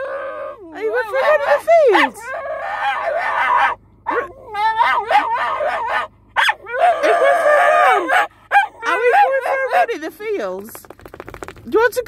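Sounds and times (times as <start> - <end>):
puppy howling: 0.0 - 10.0
puppy whining and yowling: 0.0 - 10.0
puppy yelps: 0.0 - 10.0.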